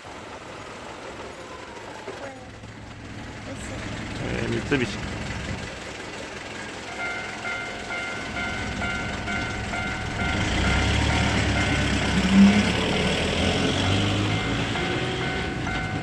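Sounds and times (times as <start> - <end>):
approaching train: 0.0 - 16.0
level crossing warning bell: 0.0 - 16.0.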